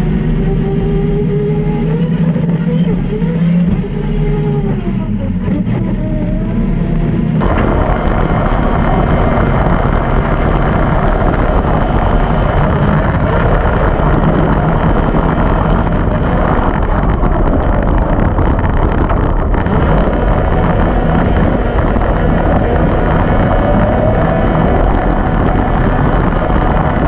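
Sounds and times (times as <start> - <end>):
side-by-side engine racing: 0.0 - 27.0
wind buffeting microphone: 0.0 - 27.0.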